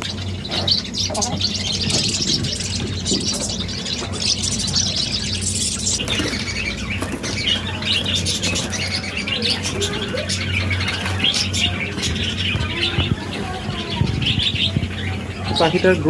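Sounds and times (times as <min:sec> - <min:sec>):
budgerigars chirping and chattering: 0:00.0 - 0:16.0
steady low hum: 0:00.0 - 0:16.0
wings flapping: 0:01.4 - 0:15.1.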